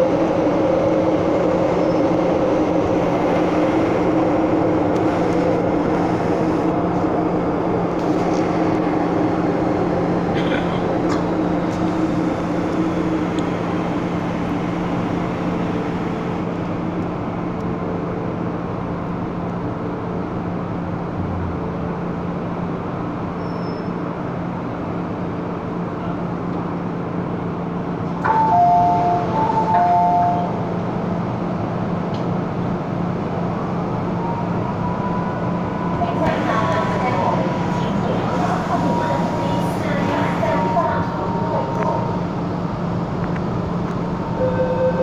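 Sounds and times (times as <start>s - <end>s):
train hum and rumble: 0.0s - 45.0s.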